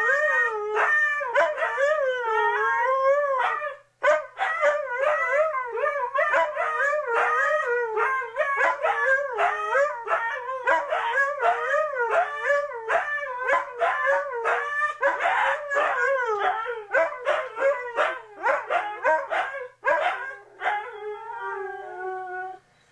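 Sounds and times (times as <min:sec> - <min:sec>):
dogs howling: 0:00.0 - 0:22.6.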